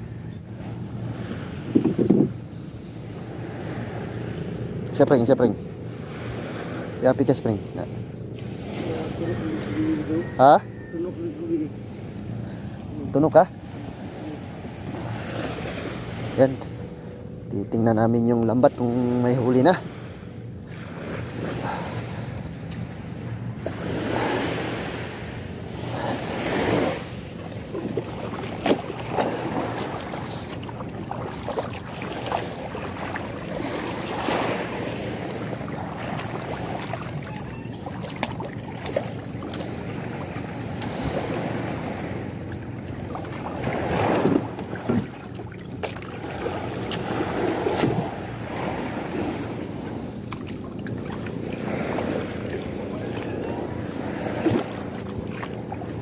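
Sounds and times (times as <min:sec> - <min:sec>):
water lapping around canoe: 0:00.0 - 0:02.4, 0:03.1 - 0:05.1, 0:05.8 - 0:07.0, 0:07.6 - 0:10.2, 0:13.6 - 0:17.2, 0:19.5 - 0:56.0
small waves washing onto shore: 0:05.9 - 0:10.4, 0:12.0 - 0:16.6, 0:18.7 - 0:56.0.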